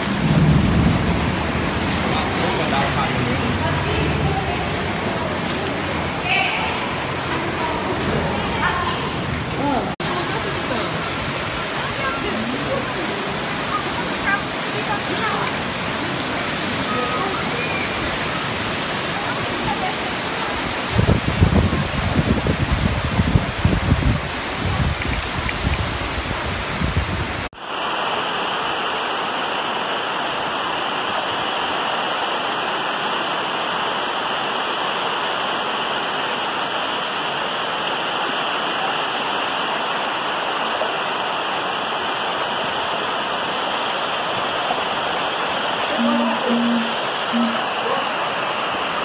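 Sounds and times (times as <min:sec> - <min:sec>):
floodwater rushing: 0:00.0 - 0:49.0
heavy rain: 0:00.0 - 0:49.0.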